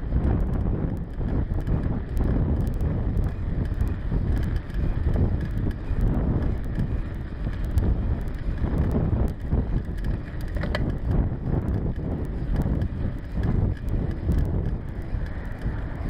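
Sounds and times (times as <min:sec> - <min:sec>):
bike tyres rumbling on road: 0:00.0 - 0:16.0
wind buffeting microphone: 0:00.0 - 0:16.0
small rattling clicks: 0:00.2 - 0:16.0.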